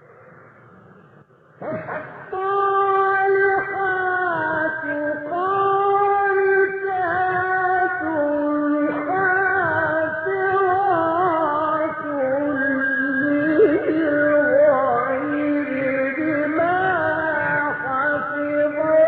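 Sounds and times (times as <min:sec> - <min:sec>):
man chanting melodically: 0:01.6 - 0:19.0.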